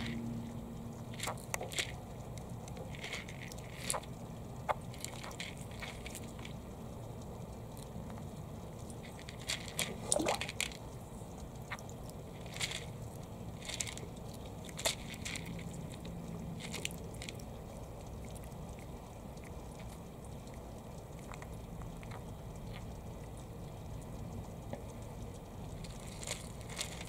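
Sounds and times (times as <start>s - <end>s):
low background noise: 0.0s - 27.0s
turtles crunching food pellets: 0.0s - 27.0s.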